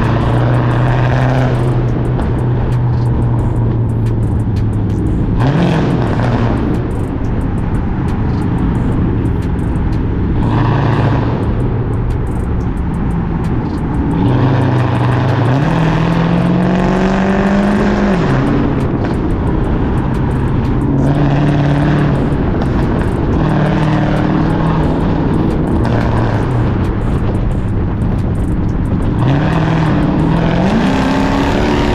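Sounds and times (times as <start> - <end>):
car engine revving exhaust: 0.0 - 31.9.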